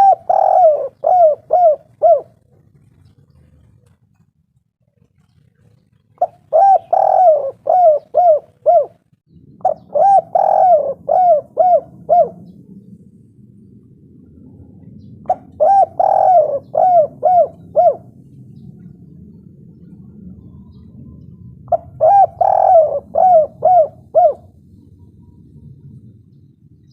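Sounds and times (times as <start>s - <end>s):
dove cooing: 0.0s - 4.0s, 5.2s - 12.7s, 14.6s - 18.9s, 19.7s - 25.9s.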